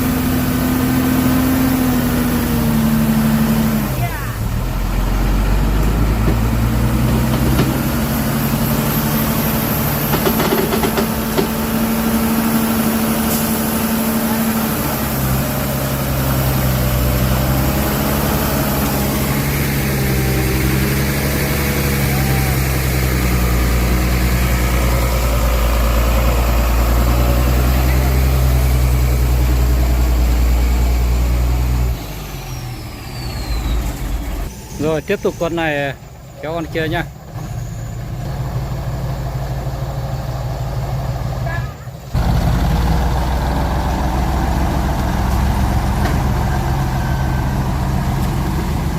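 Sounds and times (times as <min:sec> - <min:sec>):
truck diesel engine revving: 0:00.0 - 0:48.9.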